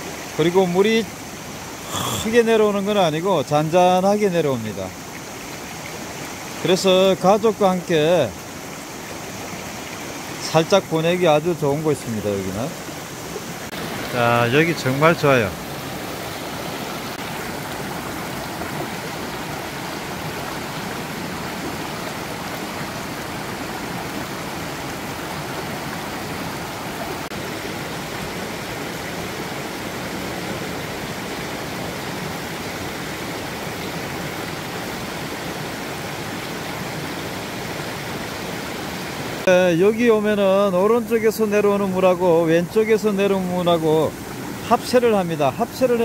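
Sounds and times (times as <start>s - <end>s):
stream flowing over rocks: 0.0s - 46.0s.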